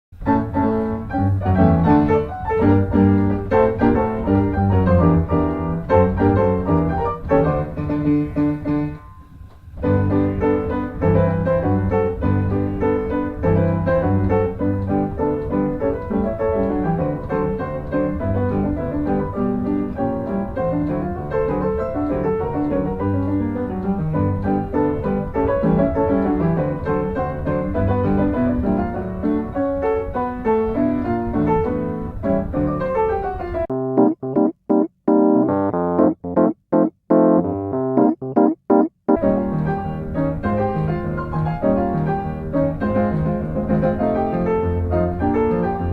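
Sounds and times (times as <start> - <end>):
piano music: 0.2 - 32.9, 33.6 - 45.9.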